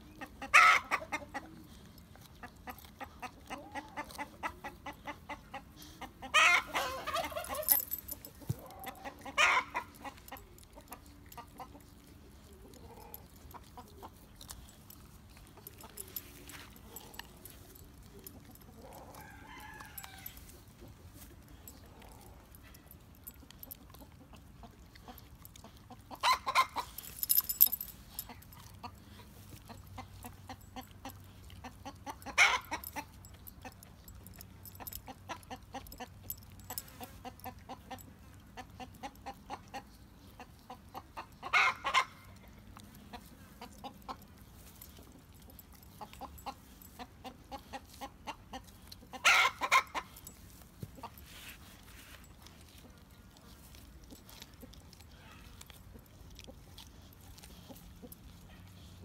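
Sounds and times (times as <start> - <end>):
dog chewing meat off bones: 0.1 - 59.0.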